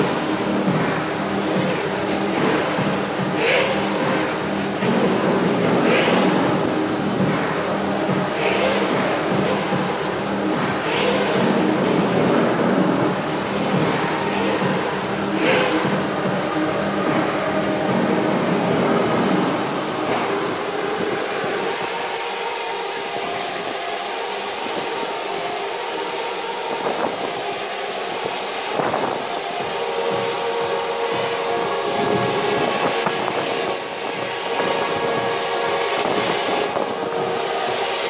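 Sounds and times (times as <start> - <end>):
drone propellers whirring: 0.0 - 38.0.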